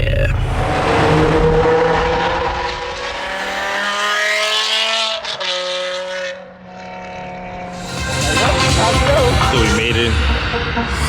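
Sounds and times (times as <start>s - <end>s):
car engine accelerating: 0.4s - 11.0s.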